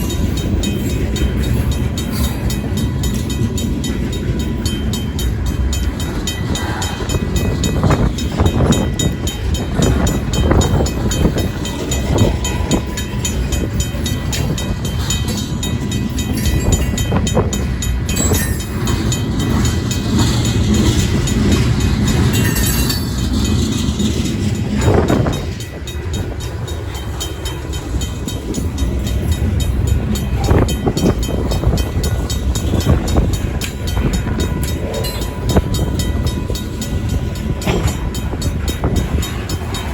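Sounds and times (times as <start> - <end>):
crossing bell ringing: 0.0 - 39.9
train wheels rumbling over rails: 0.0 - 39.9.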